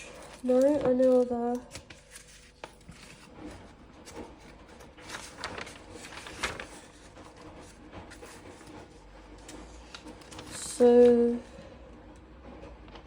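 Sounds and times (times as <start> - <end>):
rustling: 0.0 - 10.9.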